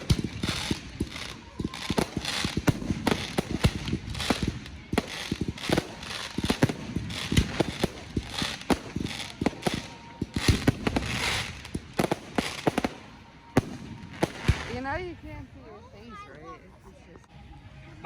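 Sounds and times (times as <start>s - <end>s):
fireworks bangs and booms: 0.0s - 15.2s
hissing crackle of fireworks: 0.0s - 15.2s.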